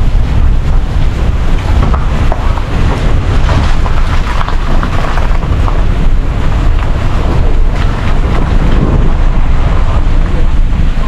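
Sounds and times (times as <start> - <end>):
car driving on rough road: 0.0 - 11.0
heavy wind buffeting: 0.0 - 11.0.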